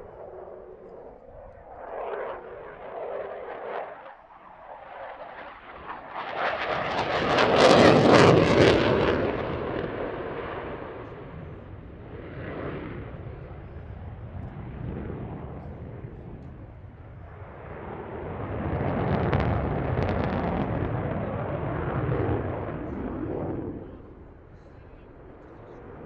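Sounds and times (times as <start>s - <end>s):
aircraft engine roar: 0.0s - 26.0s.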